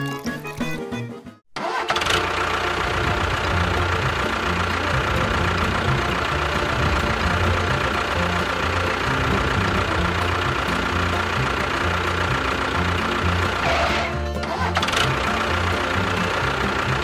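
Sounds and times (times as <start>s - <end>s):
engine idling with knocking throb: 2.0s - 17.0s.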